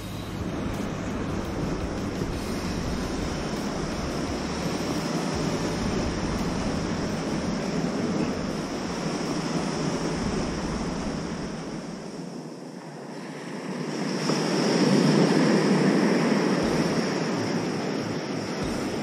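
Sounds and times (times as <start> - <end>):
ocean surf on shore: 0.0 - 19.0
wind rumbling on microphone: 0.0 - 19.0.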